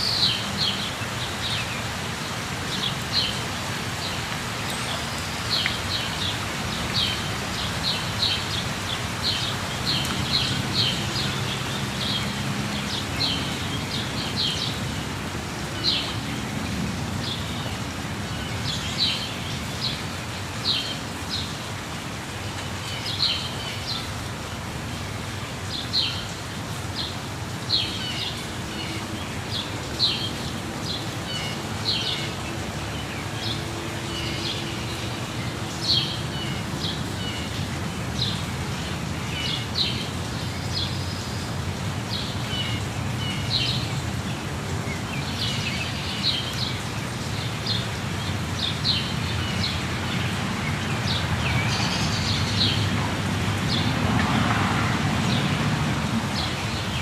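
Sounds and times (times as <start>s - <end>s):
falling water rushing: 0.0s - 57.0s.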